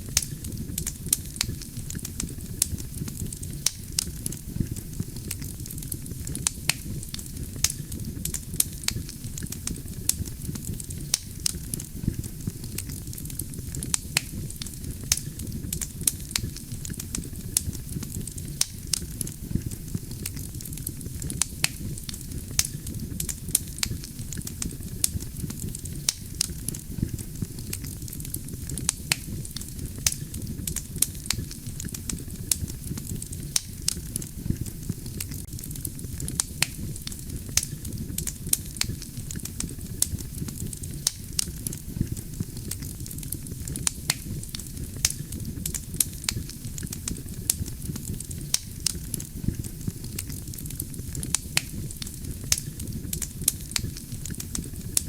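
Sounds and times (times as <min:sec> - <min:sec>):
burning logs crackling and popping: 0:00.0 - 0:55.0
wood fire rumbling: 0:00.0 - 0:55.0.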